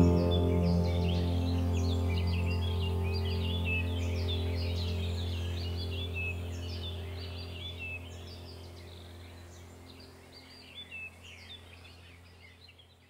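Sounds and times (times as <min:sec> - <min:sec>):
low steady hum: 0:00.0 - 0:13.0
small birds chirping: 0:00.0 - 0:13.0.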